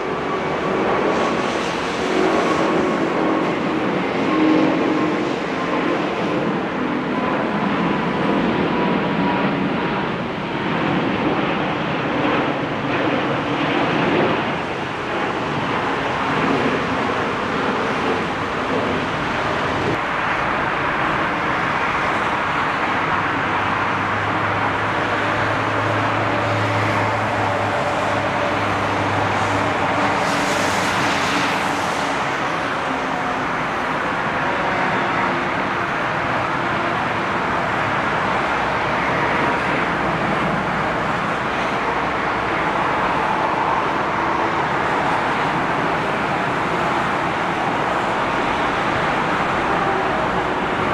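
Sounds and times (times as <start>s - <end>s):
jet engines at takeoff: 0.0s - 50.9s.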